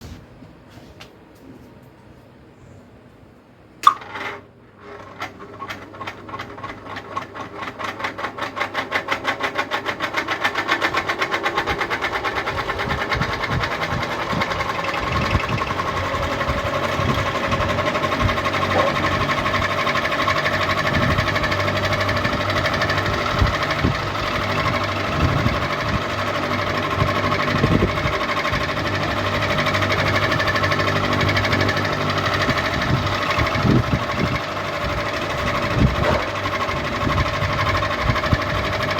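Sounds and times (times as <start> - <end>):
ceiling fan ticking and humming: 0.0 - 38.9.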